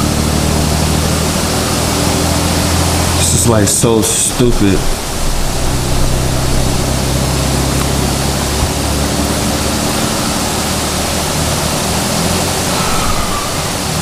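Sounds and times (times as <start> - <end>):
low engine drone: 0.0 - 14.0
road noise: 0.0 - 14.0.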